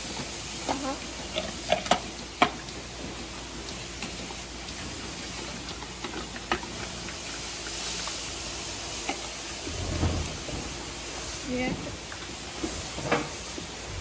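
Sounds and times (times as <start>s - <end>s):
milking machinery hiss: 0.0s - 14.0s.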